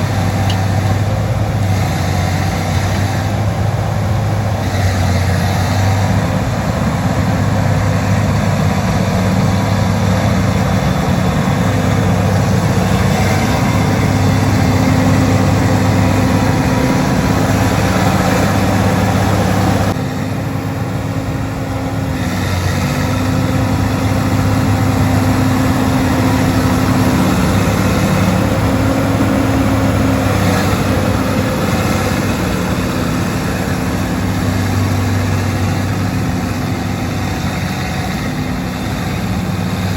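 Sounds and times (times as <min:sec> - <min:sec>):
bulldozer engine under load: 0:00.0 - 0:39.9.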